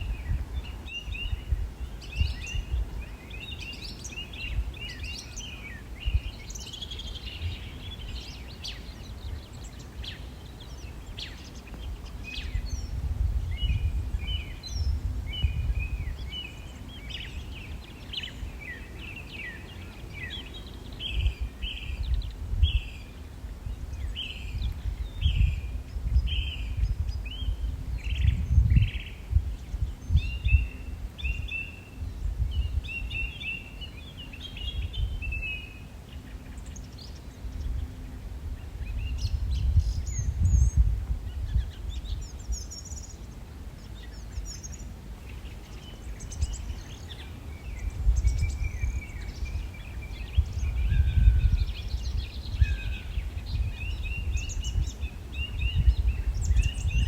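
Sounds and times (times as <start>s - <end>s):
bird chirping calls: 0.0s - 57.0s.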